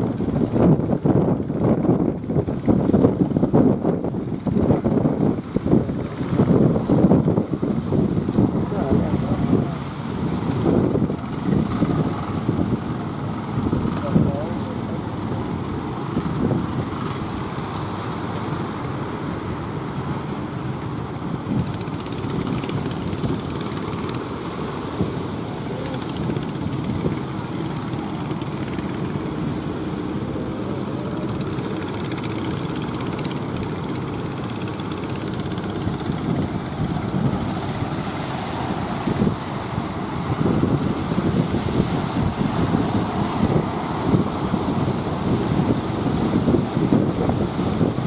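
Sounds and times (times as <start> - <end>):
boat engine running: 0.0 - 48.0
wash of waves: 0.0 - 48.0.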